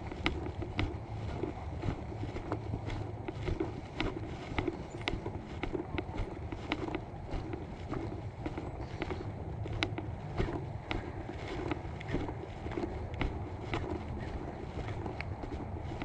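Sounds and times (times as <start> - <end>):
footsteps on dirt trail: 0.0 - 16.0.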